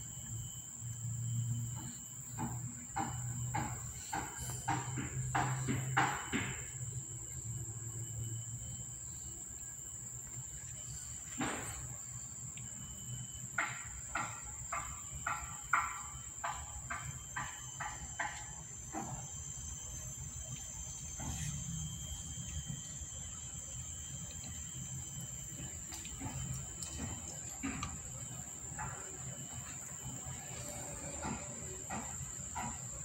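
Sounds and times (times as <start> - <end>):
high-pitched insect drone: 0.0 - 33.0.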